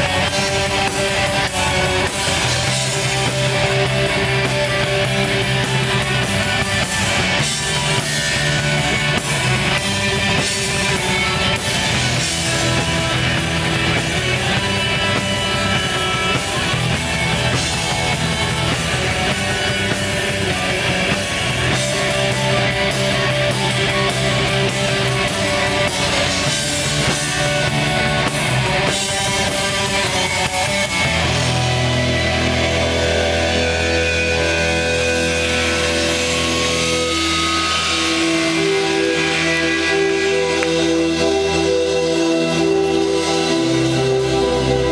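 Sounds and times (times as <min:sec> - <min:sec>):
distorted electric guitars: 0:00.0 - 0:44.9
rapid drumming with cymbals: 0:00.0 - 0:44.9.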